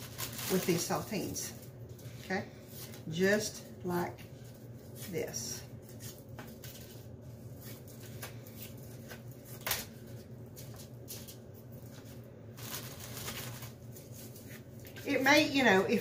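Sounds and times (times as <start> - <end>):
low steady hum: 0.0 - 16.0
plastic crinkling and rustling: 0.0 - 16.0.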